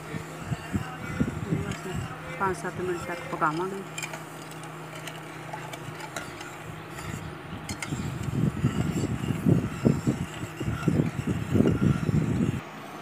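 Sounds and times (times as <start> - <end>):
ladle stirring in saucepan: 0.0 - 12.6
steady low hum: 0.0 - 13.0.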